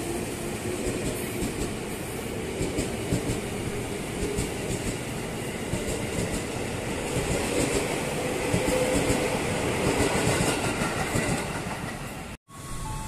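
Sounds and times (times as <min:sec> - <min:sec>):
train wheels clickety-clack: 0:00.6 - 0:12.4.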